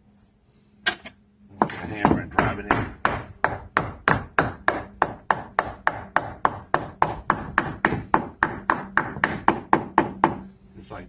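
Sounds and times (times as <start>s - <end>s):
rapid hammer blows on wood: 1.6s - 10.5s.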